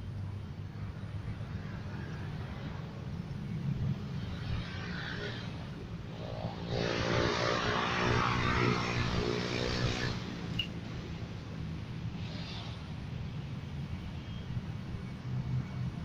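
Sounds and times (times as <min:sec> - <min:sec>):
engine hum with rushing noise: 0:00.0 - 0:16.0.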